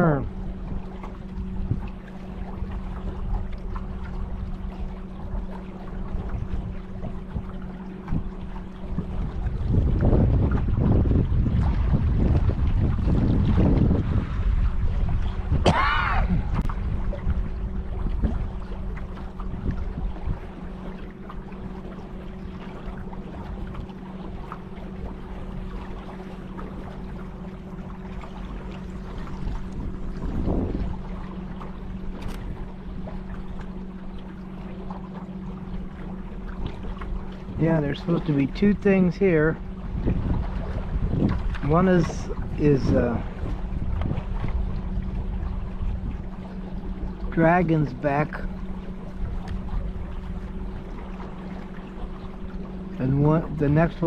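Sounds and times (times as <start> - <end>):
boat motor running: 0.0 - 54.0
low wind rumble: 0.0 - 54.0
water rushing past: 8.8 - 54.0.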